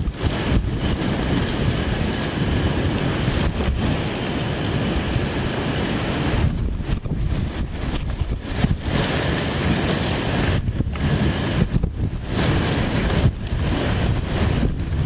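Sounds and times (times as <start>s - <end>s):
driving rain: 0.0s - 15.0s
strong gusty wind: 0.0s - 15.0s
wind buffeting microphone: 0.0s - 15.0s.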